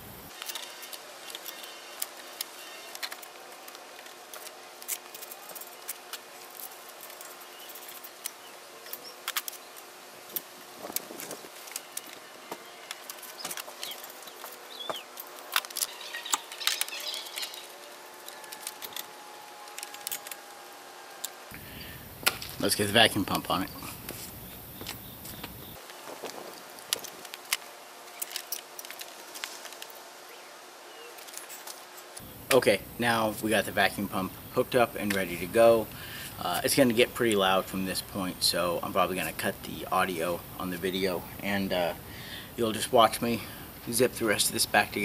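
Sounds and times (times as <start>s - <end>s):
faint background hum: 0.0s - 45.0s.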